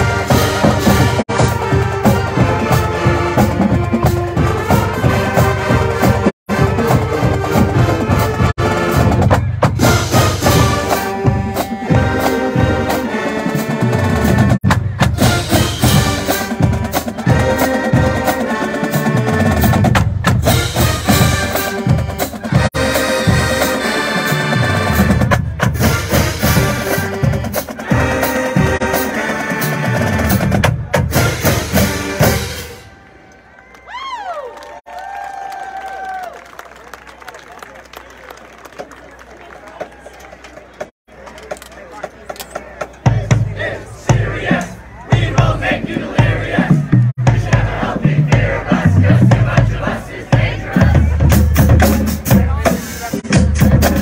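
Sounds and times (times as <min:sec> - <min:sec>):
snare and bass drums: 0:00.0 - 0:13.0, 0:13.9 - 0:23.8, 0:24.6 - 0:32.8, 0:40.6 - 0:54.0
brass and saxophones: 0:00.0 - 0:33.9, 0:42.7 - 0:54.0.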